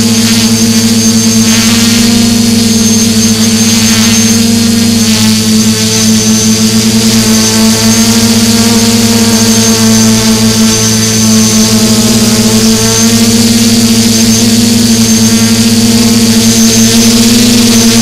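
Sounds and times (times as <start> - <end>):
drone motors humming: 0.0 - 18.0
high propeller whine: 0.0 - 18.0.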